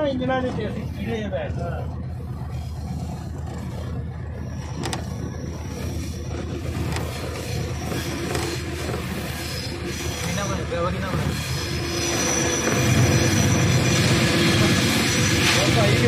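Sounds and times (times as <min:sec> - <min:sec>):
locomotive engine rumble: 0:00.0 - 0:16.0
wheel and rushing noise: 0:00.0 - 0:16.0.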